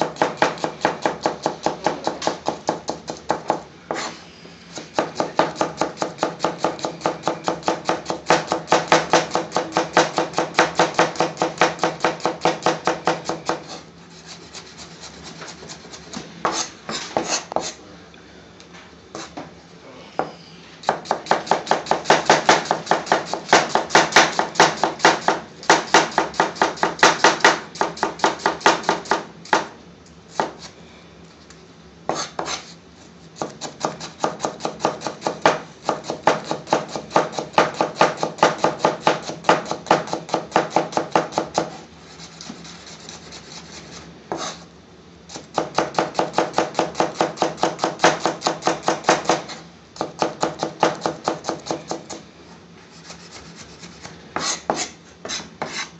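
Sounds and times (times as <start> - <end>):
knife slicing onion on board: 0.0 - 17.8, 19.1 - 19.5, 20.8 - 30.8, 32.1 - 32.8, 33.4 - 44.7, 45.3 - 52.2, 53.0 - 55.9.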